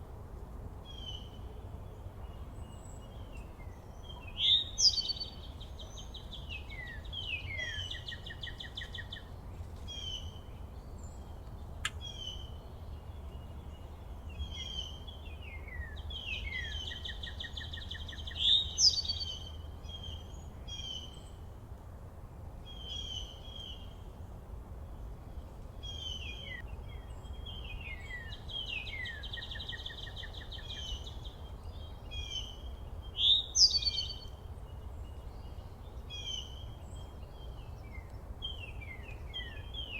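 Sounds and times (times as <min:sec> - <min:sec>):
songbirds singing: 0:00.7 - 0:22.0, 0:22.6 - 0:39.9.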